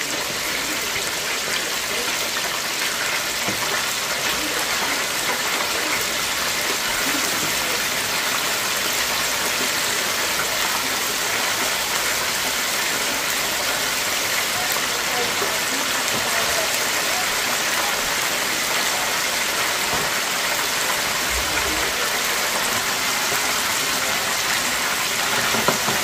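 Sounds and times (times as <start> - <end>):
oil sizzling in deep fryer: 0.0 - 26.0.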